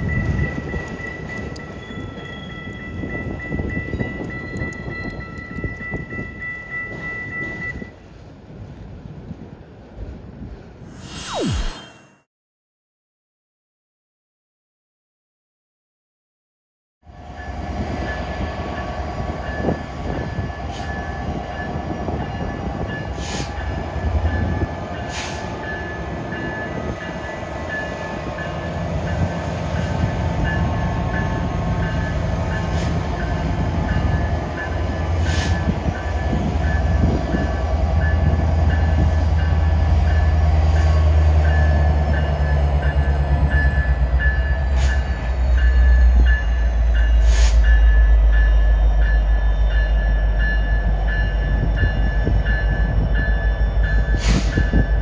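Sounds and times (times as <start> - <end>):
diesel locomotive engine rumble: 0.0 - 10.9, 17.0 - 55.0
train rolling noise: 0.0 - 10.9, 17.0 - 55.0.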